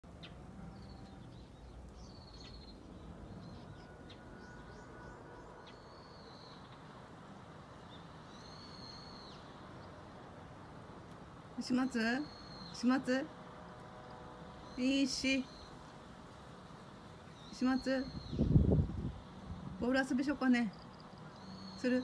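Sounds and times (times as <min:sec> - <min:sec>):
small birds chirping: 0:00.0 - 0:13.3, 0:14.0 - 0:22.0.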